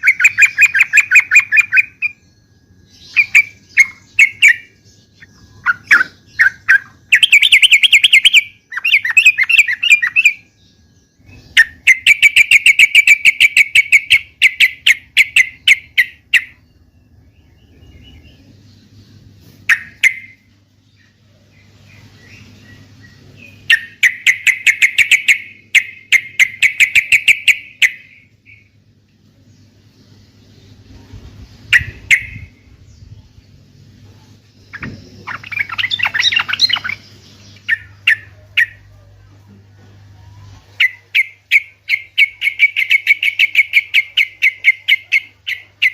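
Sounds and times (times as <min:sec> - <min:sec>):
bulbul chattering song: 0:00.0 - 0:45.9.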